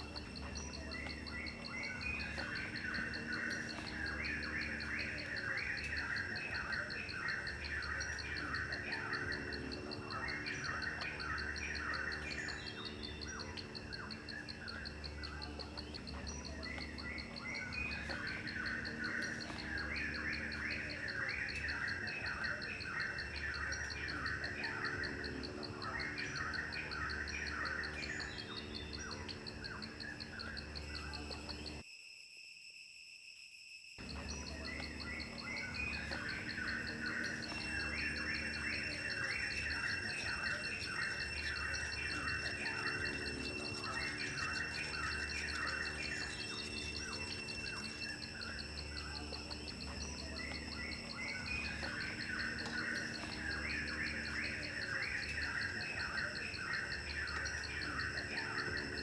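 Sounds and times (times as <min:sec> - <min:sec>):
birds chirping: 0:00.0 - 0:31.8, 0:34.0 - 0:59.0
insects trilling: 0:00.0 - 0:59.0.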